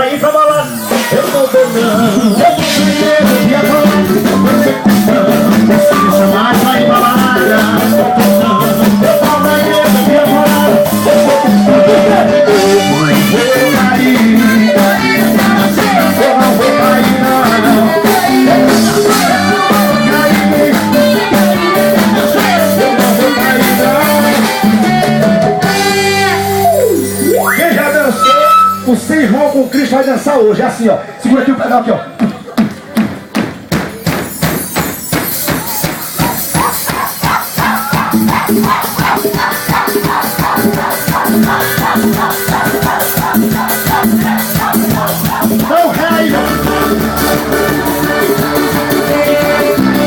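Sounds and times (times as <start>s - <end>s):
live band playing upbeat song: 0.0s - 50.0s.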